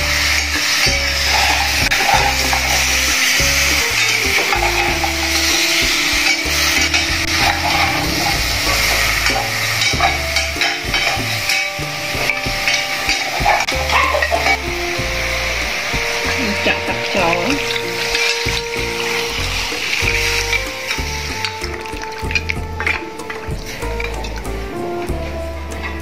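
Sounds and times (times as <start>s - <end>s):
meat sizzling in a pot: 0.0s - 23.8s
metal ladle scraping: 0.2s - 22.2s.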